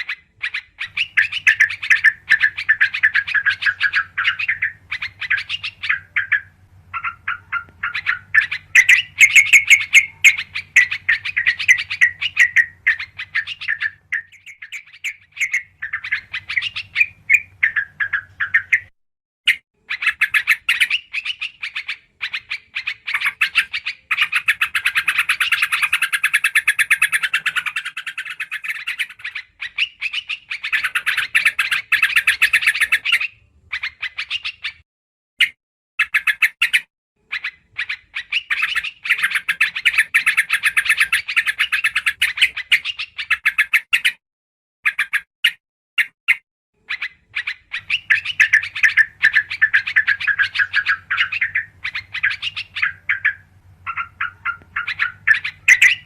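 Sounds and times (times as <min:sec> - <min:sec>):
bulbul chattering chirps: 0:00.0 - 0:18.9, 0:19.5 - 0:34.8, 0:35.4 - 0:44.2, 0:46.0 - 0:56.0.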